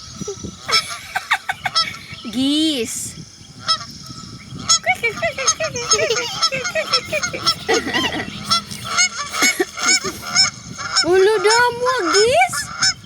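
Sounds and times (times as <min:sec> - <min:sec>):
geese honking: 0:00.6 - 0:02.6, 0:03.6 - 0:13.0.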